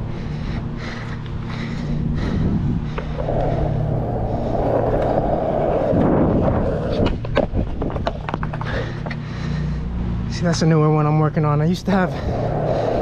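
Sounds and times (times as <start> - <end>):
skateboard wheels rolling on asphalt: 0.0 - 9.6, 11.8 - 13.0.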